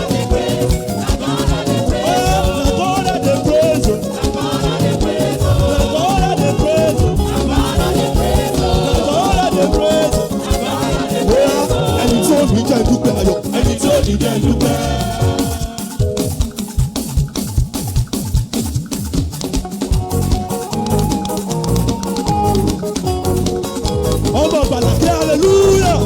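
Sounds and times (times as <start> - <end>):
driving percussion groove: 0.0 - 26.0
live band worship music: 0.0 - 26.0.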